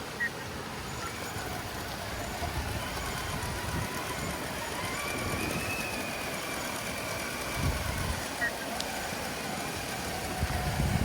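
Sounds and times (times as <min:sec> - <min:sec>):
low uneven rumble: 0:00.0 - 0:11.0
electric motor whining: 0:00.8 - 0:11.0.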